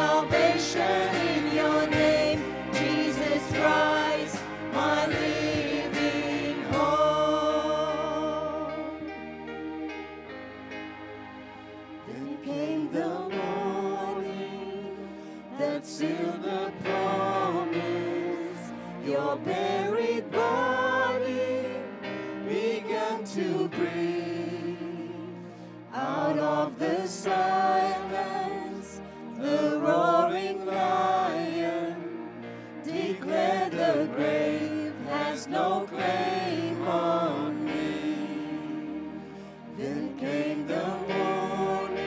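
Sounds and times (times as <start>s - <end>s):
keyboard: 0.0s - 42.0s.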